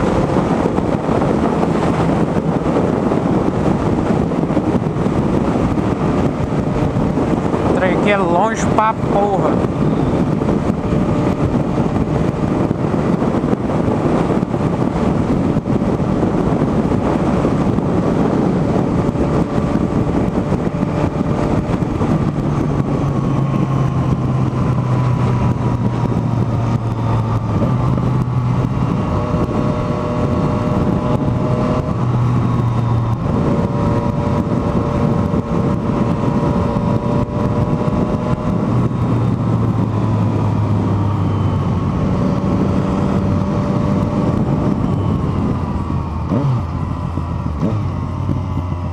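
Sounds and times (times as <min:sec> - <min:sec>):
motorcycle engine drone: 0:00.0 - 0:48.9
wind rush: 0:00.0 - 0:48.9.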